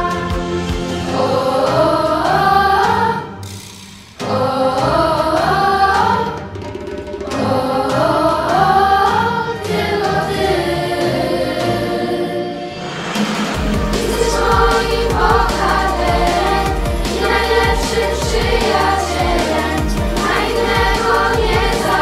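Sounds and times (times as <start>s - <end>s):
children's choir singing pop song: 0.0s - 6.6s, 7.2s - 22.0s
instrumental accompaniment: 0.0s - 22.0s.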